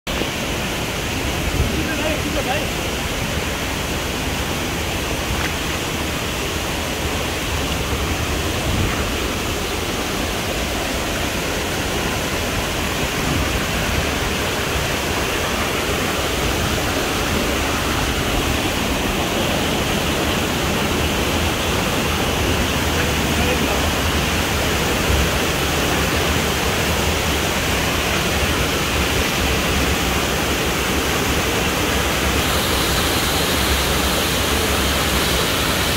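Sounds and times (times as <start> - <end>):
waterfall pouring onto rocks: 0.2 - 35.9.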